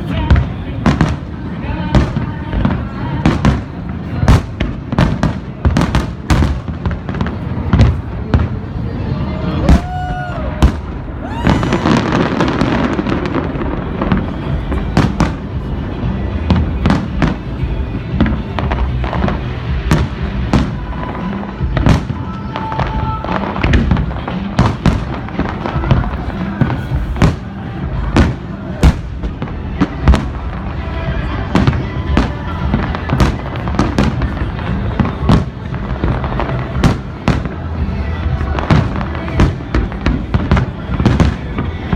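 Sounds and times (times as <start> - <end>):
fireworks bangs and crackling: 0.0 - 41.9
music playing: 0.0 - 41.9.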